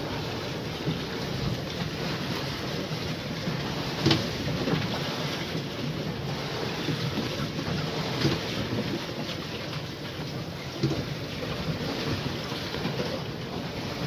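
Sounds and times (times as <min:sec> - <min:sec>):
water rushing past hull: 0:00.0 - 0:14.0.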